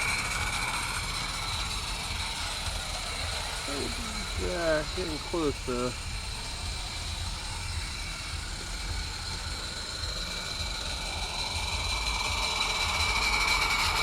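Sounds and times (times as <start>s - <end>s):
steam locomotive hissing: 0.0s - 14.0s
thin high whine: 0.0s - 14.0s
low rumble: 0.2s - 13.6s.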